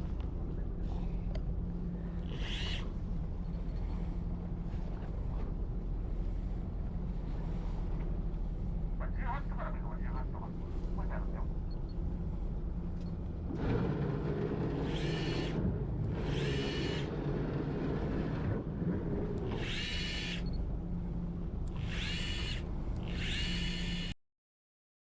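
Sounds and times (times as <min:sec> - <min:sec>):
boat engine humming: 0:00.0 - 0:24.1.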